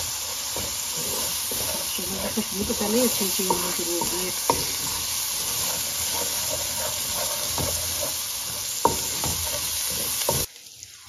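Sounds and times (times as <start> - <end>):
wooden spoon scraping a pan: 0.0 - 10.5
masala sizzling in hot oil: 0.0 - 11.0
spoon knocking on pan: 0.4 - 10.5.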